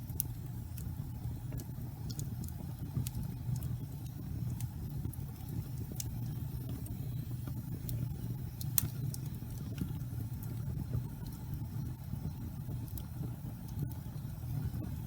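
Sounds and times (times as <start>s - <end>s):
crackles and pops of burning wood: 0.0s - 15.0s
wood fire rumbling: 0.0s - 15.0s.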